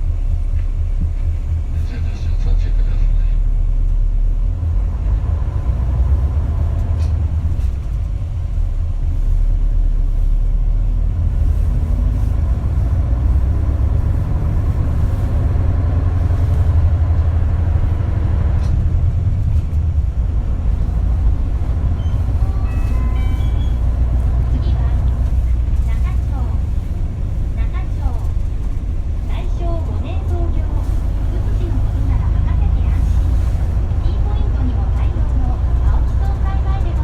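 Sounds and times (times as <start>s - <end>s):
bus diesel engine rumbling: 0.0s - 37.0s.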